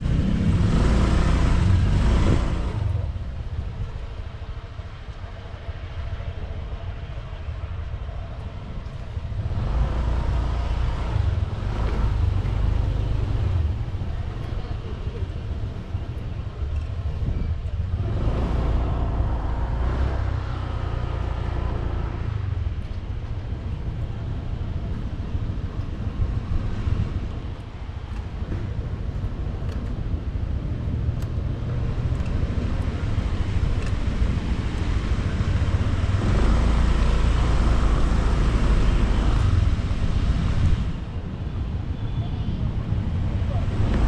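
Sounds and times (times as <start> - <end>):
road and wind noise: 0.0 - 44.0.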